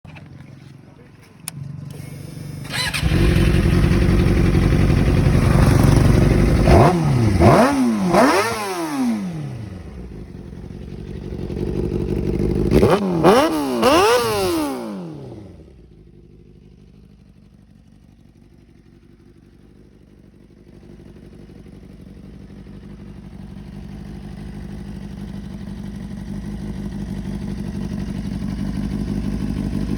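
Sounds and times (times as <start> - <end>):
motorcycle engine revving and idling: 0.1 - 29.9.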